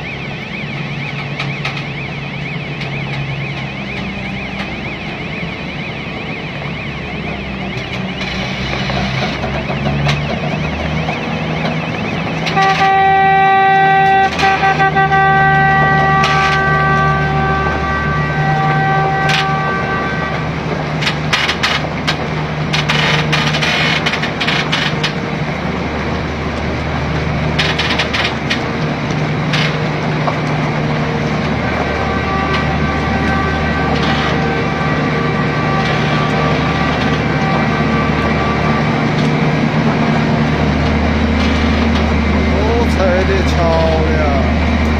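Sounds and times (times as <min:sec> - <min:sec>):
high whine: 0:00.0 - 0:21.8, 0:26.2 - 0:44.9
heavy truck engine droning: 0:00.0 - 0:44.9
sharp clicks and crackles: 0:00.3 - 0:17.3, 0:19.2 - 0:19.7, 0:20.9 - 0:25.6, 0:26.5 - 0:34.9, 0:35.7 - 0:43.9.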